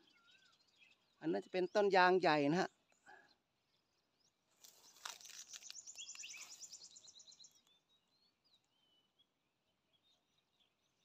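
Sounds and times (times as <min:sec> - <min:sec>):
faint bird chirps: 0:00.0 - 0:01.6, 0:02.7 - 0:11.0.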